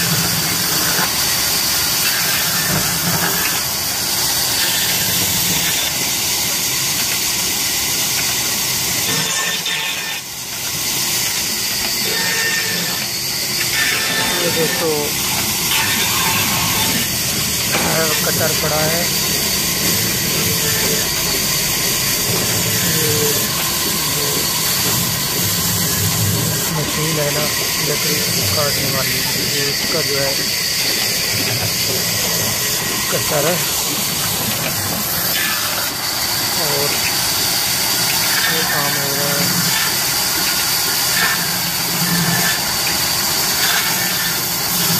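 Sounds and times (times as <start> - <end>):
band saw machine drone: 0.0 - 44.9.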